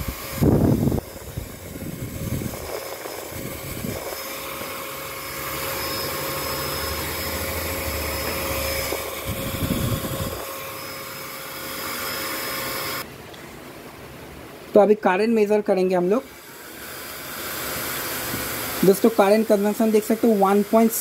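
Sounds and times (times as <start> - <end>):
blower fan whine: 0.0 - 21.0.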